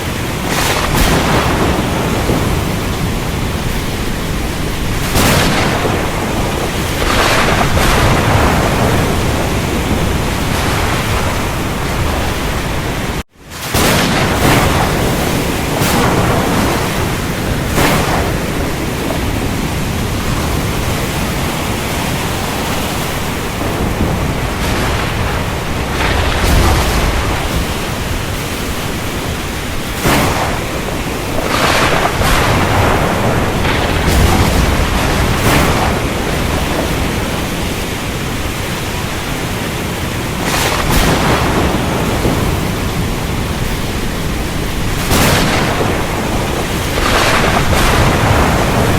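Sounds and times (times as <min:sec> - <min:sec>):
heavy rain: 0:00.0 - 0:48.9
rolling thunder rumbles: 0:00.0 - 0:48.9
thunder cracks: 0:00.0 - 0:48.9.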